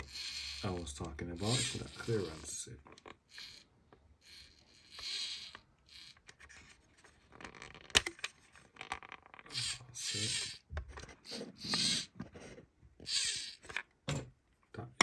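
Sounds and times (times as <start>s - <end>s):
scratchy rubbing of plastic parts: 0.0s - 14.0s.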